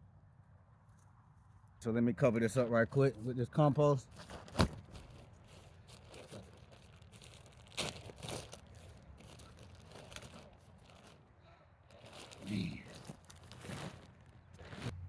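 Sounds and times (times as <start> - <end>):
compost rustling: 2.5 - 15.0.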